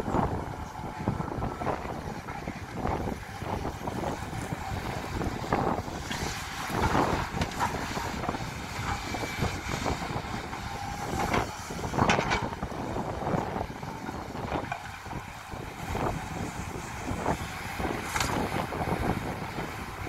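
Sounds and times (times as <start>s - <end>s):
excavator engine rumble: 0.0s - 20.0s.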